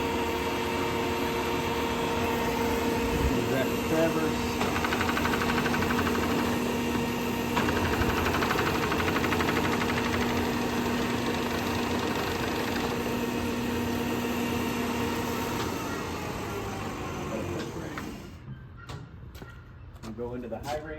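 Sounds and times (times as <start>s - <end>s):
lathe gearing whine: 0.0s - 18.3s.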